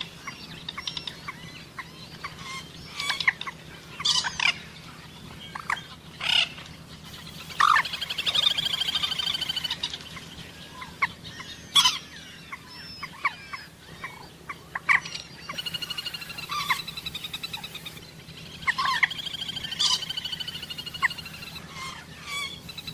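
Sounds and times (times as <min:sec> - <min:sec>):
moorhen calling: 0:00.0 - 0:22.9.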